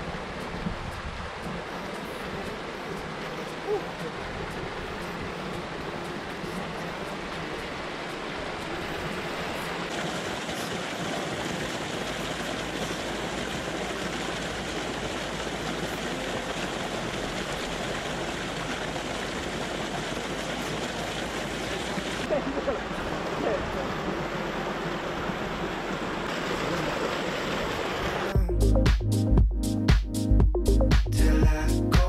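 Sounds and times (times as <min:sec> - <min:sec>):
water splashing over rocks: 0:00.0 - 0:28.4.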